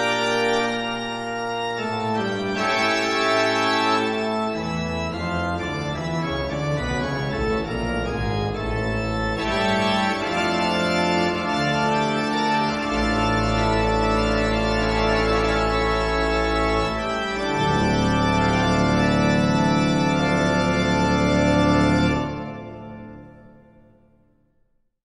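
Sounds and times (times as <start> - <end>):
organ chords: 0.0 - 24.2.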